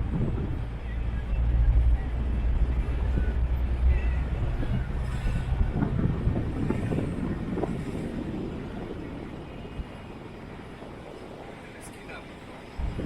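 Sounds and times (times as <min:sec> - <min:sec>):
motor vehicle engine rumble: 0:00.0 - 0:13.0.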